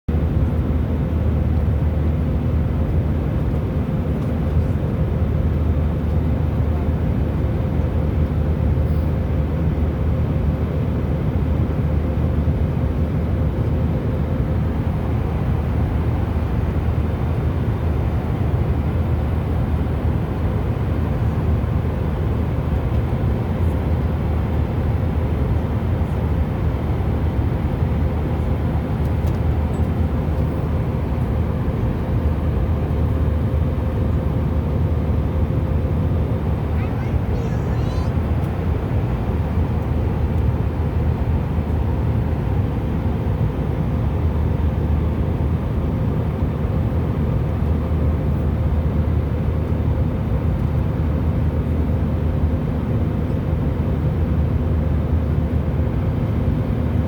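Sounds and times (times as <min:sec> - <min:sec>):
airliner cabin drone: 0:00.1 - 0:57.0
faint constant hum: 0:00.1 - 0:57.0.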